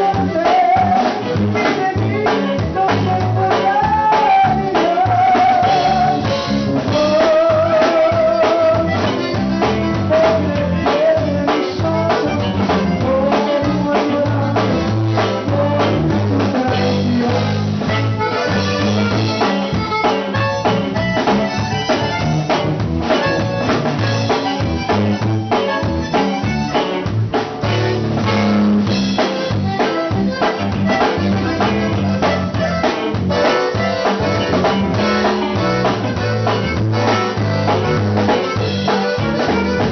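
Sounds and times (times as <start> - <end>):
accordion melody: 0.0 - 39.9
bass: 0.0 - 39.9
drum kit beat: 0.0 - 39.9.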